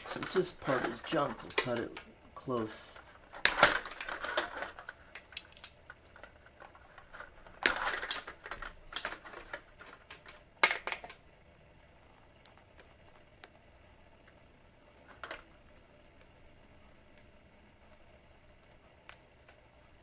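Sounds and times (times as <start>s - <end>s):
light clicks and handling noise: 0.0s - 11.2s, 12.2s - 20.0s.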